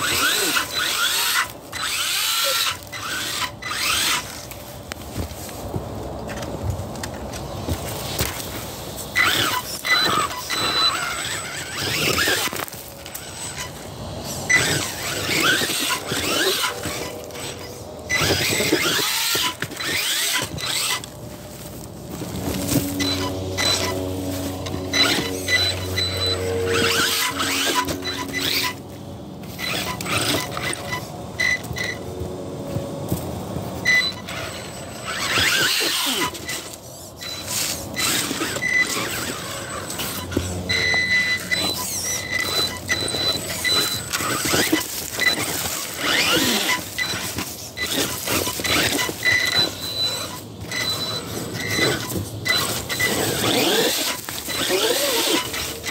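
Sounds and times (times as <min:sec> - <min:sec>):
electric motor whining: 0:00.0 - 0:05.3, 0:06.4 - 0:55.9
tyres scrabbling on rock: 0:00.0 - 0:28.8, 0:29.4 - 0:32.0, 0:32.6 - 0:55.9.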